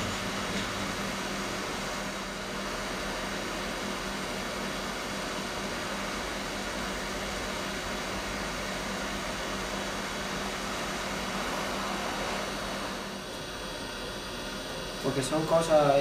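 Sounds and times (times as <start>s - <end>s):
blower hum: 0.0s - 16.0s
hot air station hissing: 0.0s - 16.0s.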